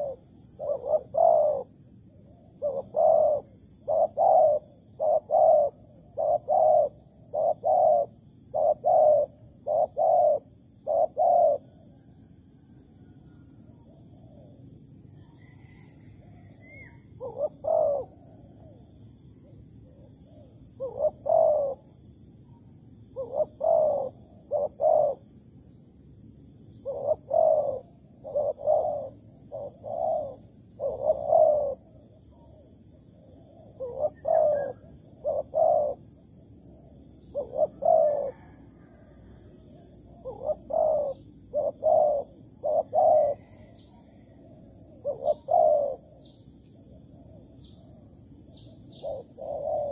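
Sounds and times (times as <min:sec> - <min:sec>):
dove cooing: 0:00.0 - 0:12.7, 0:13.6 - 0:14.7, 0:15.4 - 0:22.1, 0:23.0 - 0:25.4, 0:26.8 - 0:49.9.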